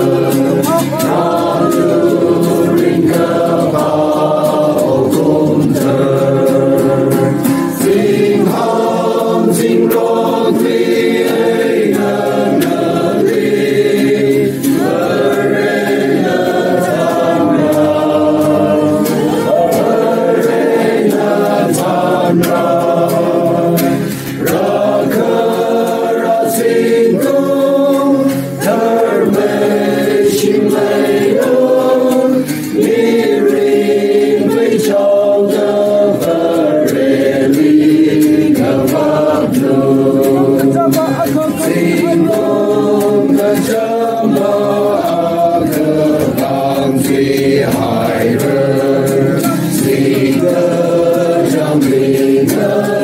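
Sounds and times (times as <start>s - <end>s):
crowd singing a hymn: 0.0s - 53.0s.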